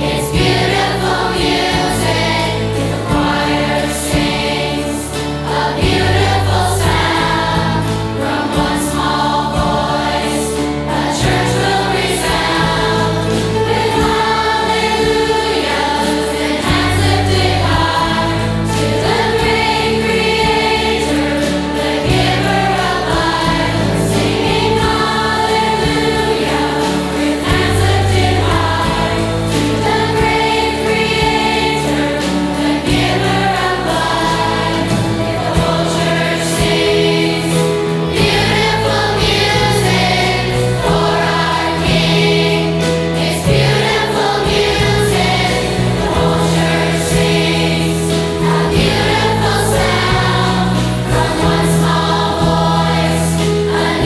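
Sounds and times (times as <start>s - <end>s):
choir singing: 0.0s - 54.0s
instrumental accompaniment: 0.0s - 54.0s
low bass notes: 0.0s - 54.0s.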